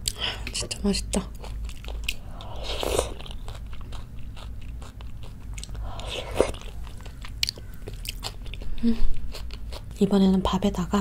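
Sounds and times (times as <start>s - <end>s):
close chewing with wet mouth clicks: 1.2s - 10.0s.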